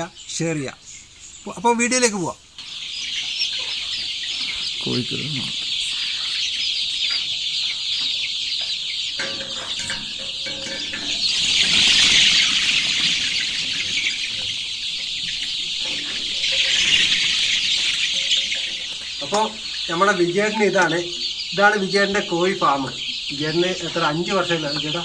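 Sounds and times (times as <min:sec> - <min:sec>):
chicks peeping and chirping: 0:00.0 - 0:25.0.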